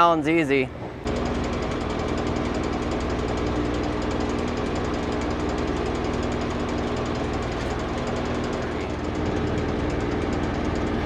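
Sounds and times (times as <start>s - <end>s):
engine running with knocking pulse: 0.8s - 11.0s.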